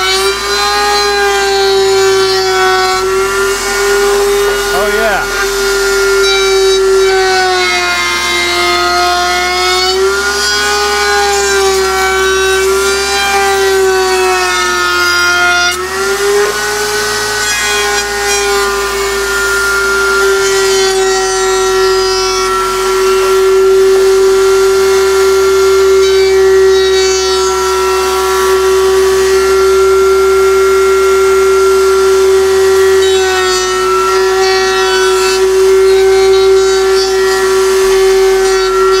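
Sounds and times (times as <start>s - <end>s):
router motor whine cutting wood: 0.0s - 39.0s.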